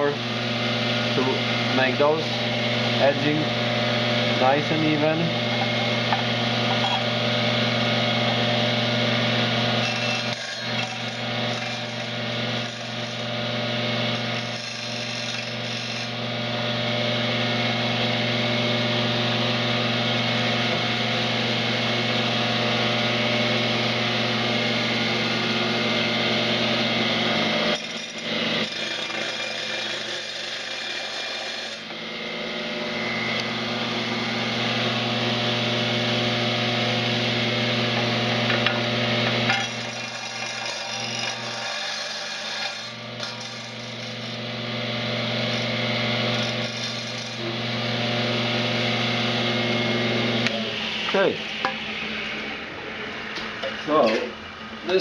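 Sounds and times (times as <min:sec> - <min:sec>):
power tool motor running: 0:00.0 - 0:52.6.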